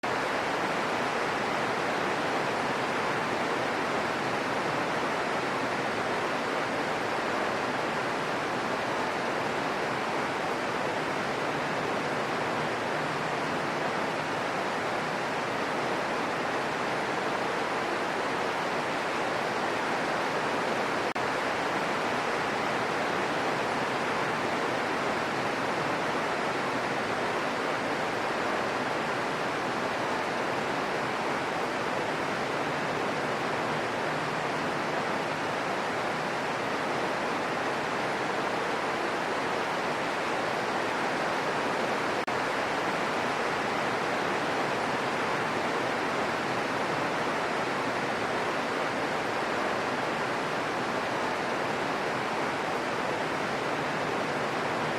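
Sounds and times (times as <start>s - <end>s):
gentle rain falling: 0.0s - 54.9s.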